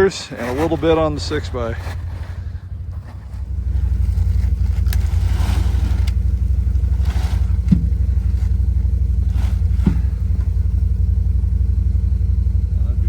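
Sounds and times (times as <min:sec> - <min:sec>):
knocks and clattery noises: 0:00.0 - 0:10.8
atv engine rumbling: 0:00.0 - 0:13.0.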